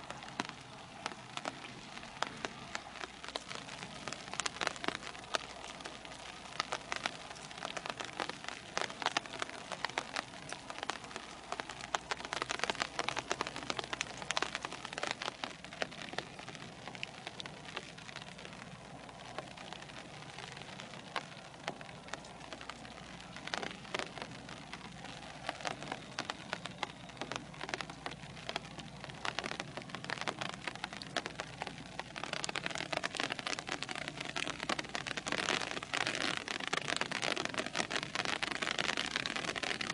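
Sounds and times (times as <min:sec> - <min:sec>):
rain spattering: 0:00.0 - 0:39.9.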